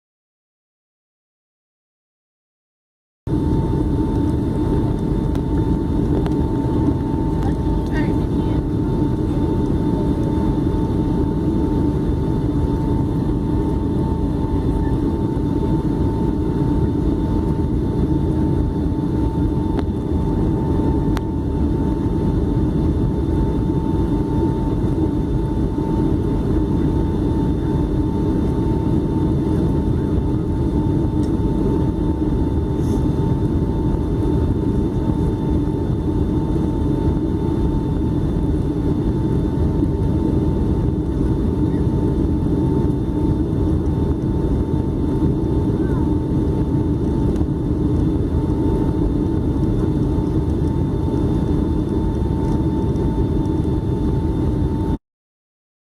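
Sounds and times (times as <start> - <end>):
airplane cabin drone: 3.3 - 55.0
thin steady whine: 3.3 - 55.0.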